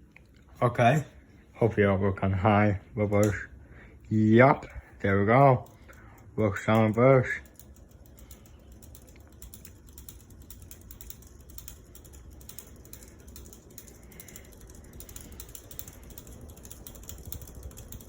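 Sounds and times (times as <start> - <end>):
ceiling fan humming and ticking: 0.0 - 18.0.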